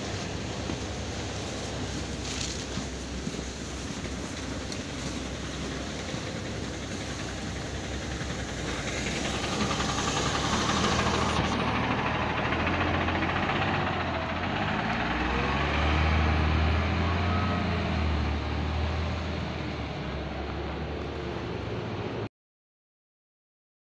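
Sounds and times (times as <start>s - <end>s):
bus engine revving: 0.0s - 22.3s.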